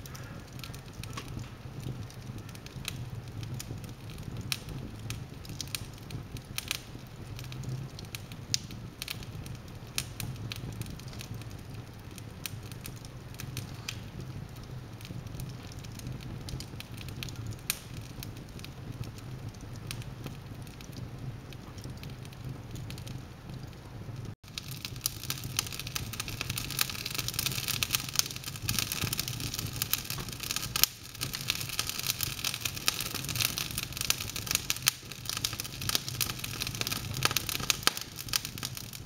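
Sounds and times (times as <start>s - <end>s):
low fire rumble: 0.0s - 39.0s
wood logs crackling and popping: 0.0s - 39.0s.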